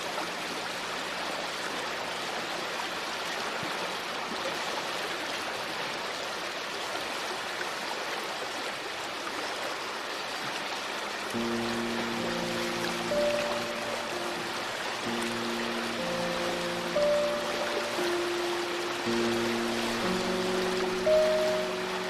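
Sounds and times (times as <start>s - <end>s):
river water rushing: 0.2s - 22.0s.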